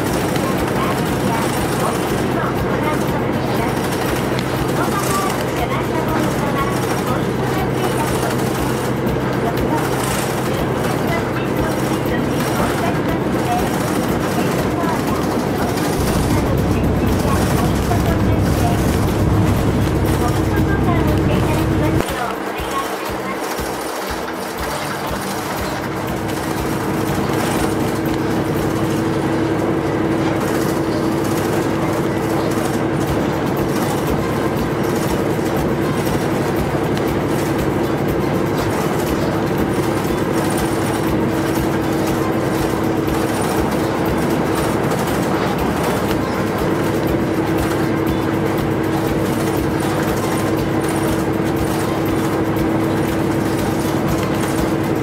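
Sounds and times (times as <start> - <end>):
bus engine and road noise: 0.0 - 55.0
constant whine: 0.0 - 55.0.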